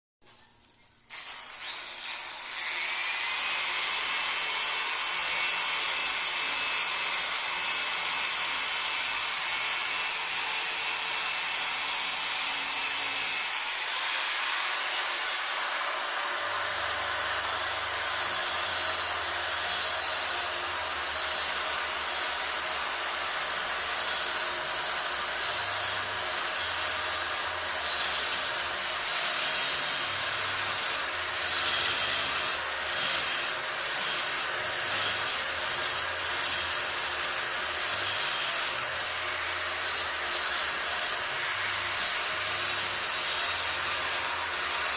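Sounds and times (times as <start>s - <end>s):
power carving tool grinding wood: 1.1s - 44.9s.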